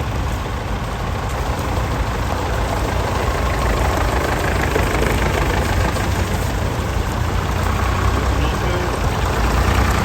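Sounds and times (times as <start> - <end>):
tractor engines idling: 0.0 - 10.0.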